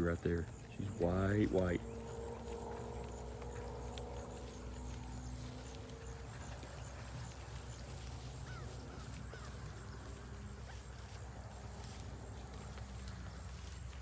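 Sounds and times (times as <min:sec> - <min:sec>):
sheep chewing grass: 0:00.0 - 0:14.0
steady low hum: 0:00.0 - 0:14.0.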